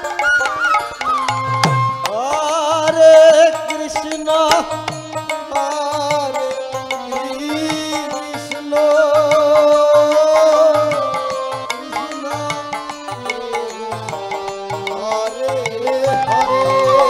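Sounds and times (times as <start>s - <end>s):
hand drum beats: 0.0s - 17.0s
held gliding melody: 0.0s - 17.0s.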